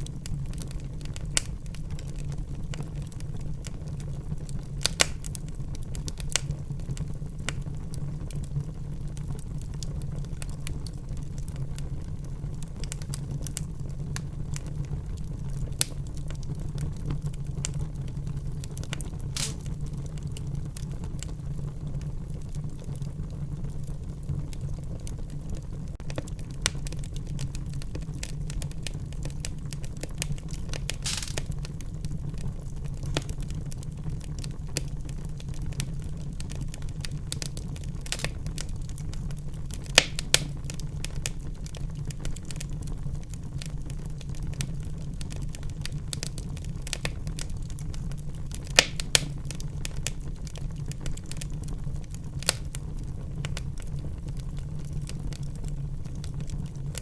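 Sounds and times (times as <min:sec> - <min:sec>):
loud fire pops: 0:00.0 - 0:21.4, 0:25.3 - 0:57.0
low fire rumble: 0:00.0 - 0:57.0
wood fire crackling: 0:00.0 - 0:57.0.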